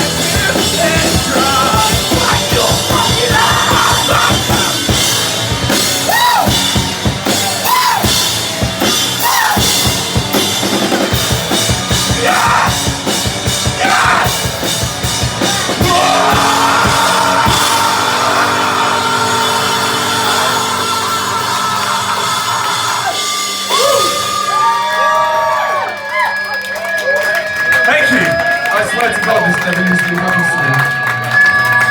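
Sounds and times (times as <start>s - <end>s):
yelled vocals: 0.0s - 25.6s
drum kit: 0.0s - 26.4s
live rock band playing: 0.0s - 31.9s.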